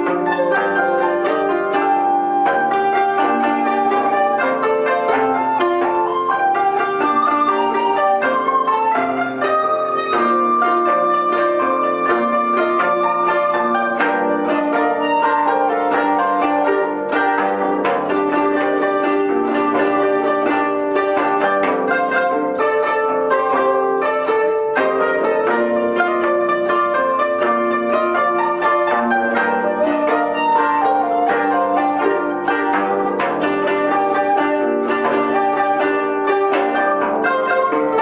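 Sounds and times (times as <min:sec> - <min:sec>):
bamboo flute long notes: 0:00.0 - 0:38.0
koto plucking: 0:00.0 - 0:38.0.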